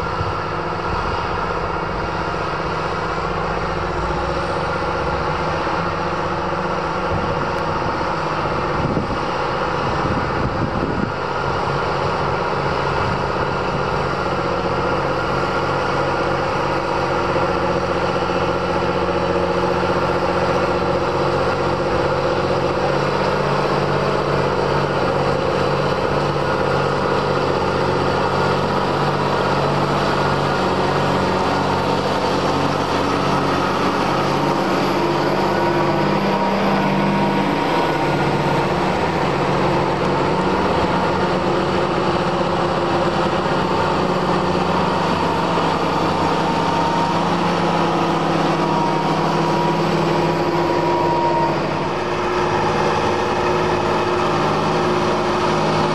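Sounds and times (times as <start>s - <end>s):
thin steady whine: 0.0s - 55.9s
tractor engine under load: 0.0s - 55.9s.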